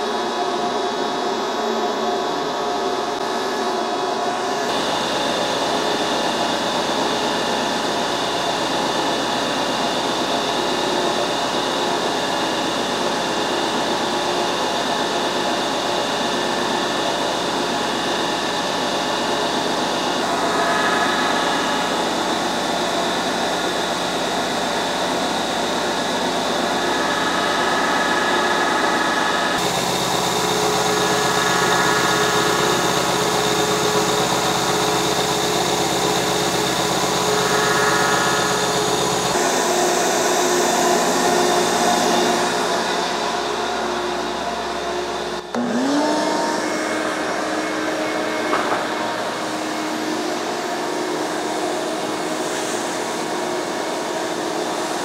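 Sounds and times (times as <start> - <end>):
milling machine cutting metal: 3.3 - 55.0.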